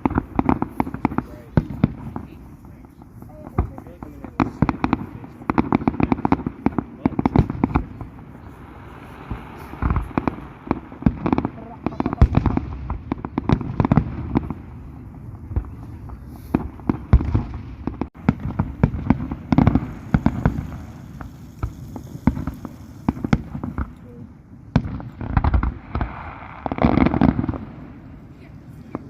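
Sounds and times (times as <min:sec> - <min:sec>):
fireworks cracking and popping: 0:00.0 - 0:29.0
heavy fireworks bangs: 0:00.0 - 0:29.0.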